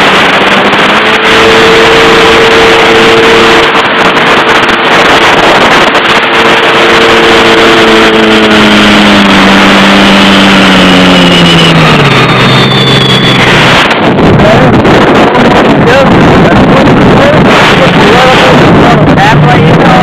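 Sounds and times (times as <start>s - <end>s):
jet ski engine running: 0.0s - 20.0s
water rushing: 0.0s - 20.0s
wind: 0.0s - 20.0s.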